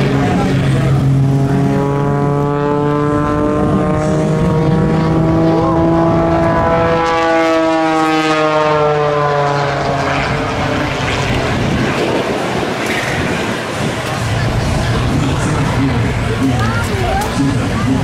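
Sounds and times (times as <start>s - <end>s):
propeller plane diving: 0.0s - 18.0s.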